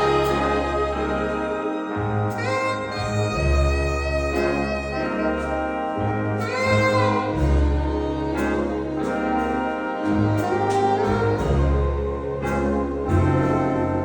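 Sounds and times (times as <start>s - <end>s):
jazz ensemble playing: 0.0s - 14.0s
low bass line: 0.0s - 14.0s.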